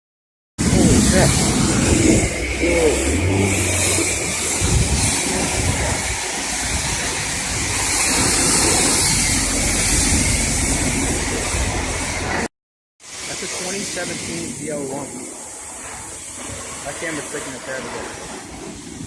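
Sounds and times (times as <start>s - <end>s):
water jets spraying a car: 0.6s - 19.0s.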